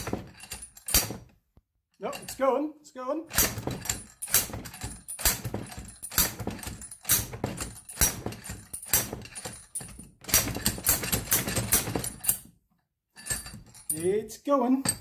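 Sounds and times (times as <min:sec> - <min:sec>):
metal-on-metal clanks: 0:00.0 - 0:01.3, 0:02.0 - 0:02.4, 0:03.3 - 0:12.5, 0:13.2 - 0:14.2, 0:14.8 - 0:15.0.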